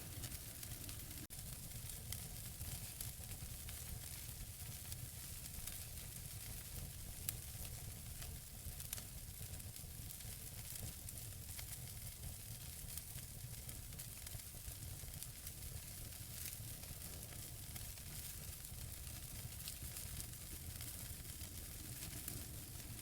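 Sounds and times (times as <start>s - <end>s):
burning logs crackling: 0.0s - 23.0s
fire hissing and rumbling: 0.0s - 23.0s.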